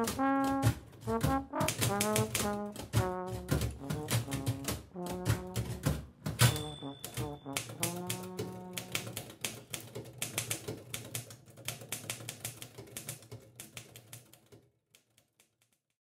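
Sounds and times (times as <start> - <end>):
typewriter keys clacking: 0.0 - 15.3.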